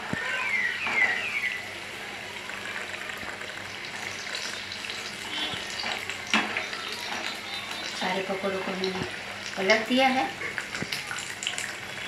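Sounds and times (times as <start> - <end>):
potato slices sizzling in oil: 0.1 - 12.0.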